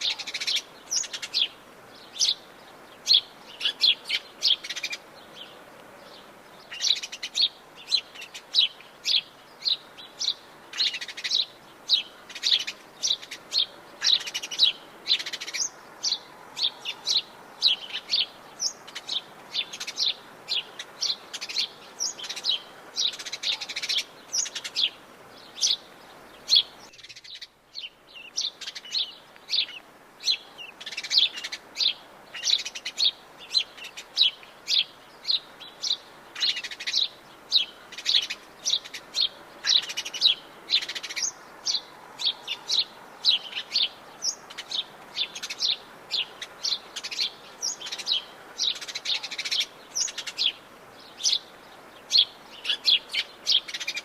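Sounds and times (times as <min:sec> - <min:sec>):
faint steady hiss: 0:00.0 - 0:54.0
songbirds chirping: 0:00.0 - 0:54.0.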